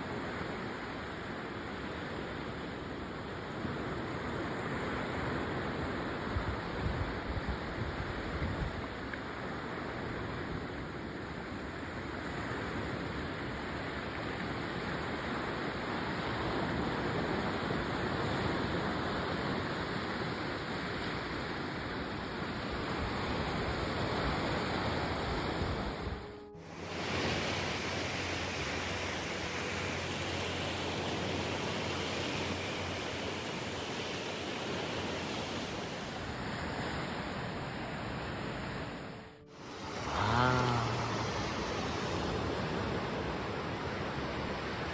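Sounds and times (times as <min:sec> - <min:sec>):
sea surf washing on shore: 0:00.0 - 0:44.9.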